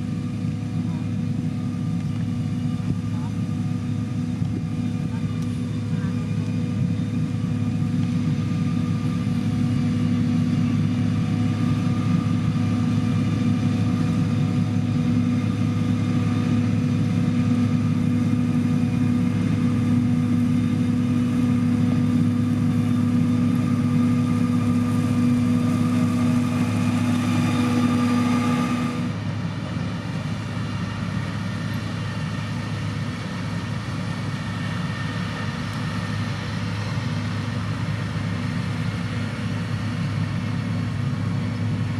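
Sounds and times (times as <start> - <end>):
diesel construction machinery running: 0.0 - 41.9
low engine hum: 0.0 - 41.9.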